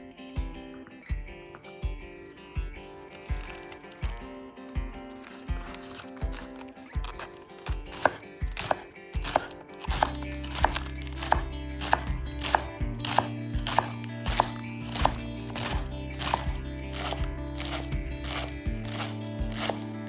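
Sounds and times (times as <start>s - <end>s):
knife chopping on cutting board: 3.0s - 4.3s, 5.1s - 20.0s.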